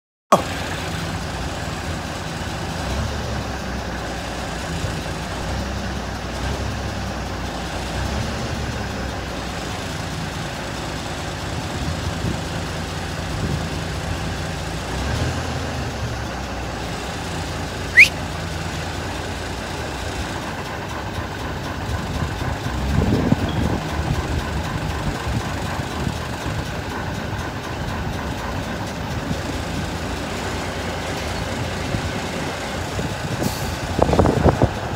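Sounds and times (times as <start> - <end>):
diesel engine running: 0.3 - 34.9.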